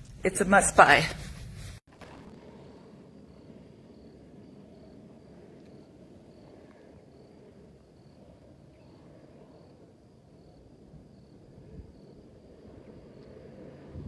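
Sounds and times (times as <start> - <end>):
low background rumble: 0.0 - 14.0
cricket chirping: 2.0 - 14.0.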